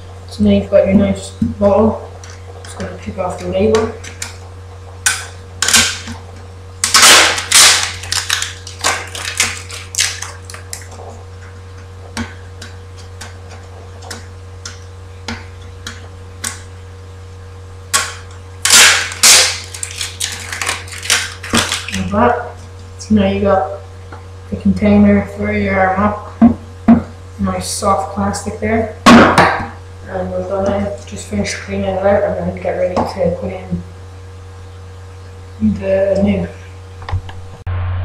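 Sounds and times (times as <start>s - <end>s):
low mains hum: 0.0s - 38.0s.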